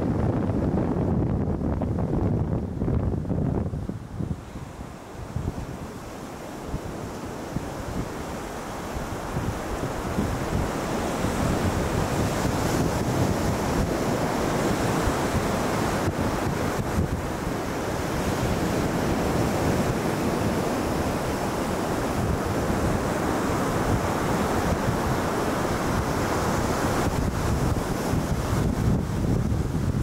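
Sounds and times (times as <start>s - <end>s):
surf washing onto beach: 0.0s - 30.0s
wind on microphone: 0.0s - 30.0s.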